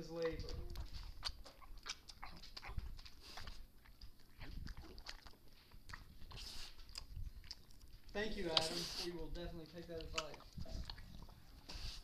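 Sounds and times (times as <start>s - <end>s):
dog chewing and smacking: 0.0s - 12.0s.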